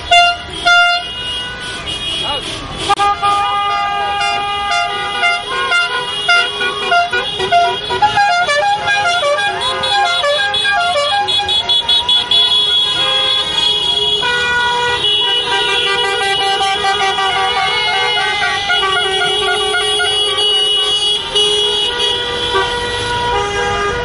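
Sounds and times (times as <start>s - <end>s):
car horns honking: 0.0s - 24.0s.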